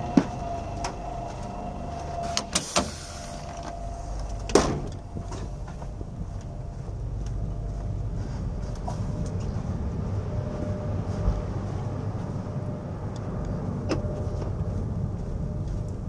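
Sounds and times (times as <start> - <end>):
faint steady hum: 0.0 - 16.0
train carriage low rumble: 0.0 - 16.0.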